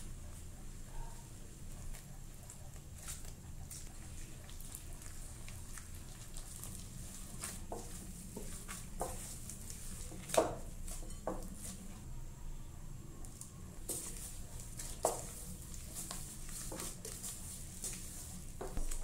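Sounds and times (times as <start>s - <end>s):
dough squishing and patting: 0.0s - 12.1s, 13.2s - 19.0s.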